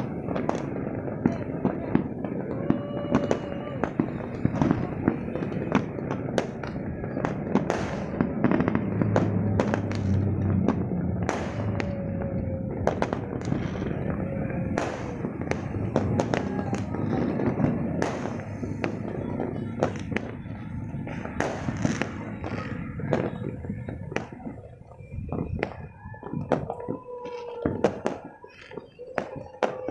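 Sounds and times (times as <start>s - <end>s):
fireworks crackling and banging: 0.0s - 29.9s
sharp firework reports: 0.0s - 29.9s.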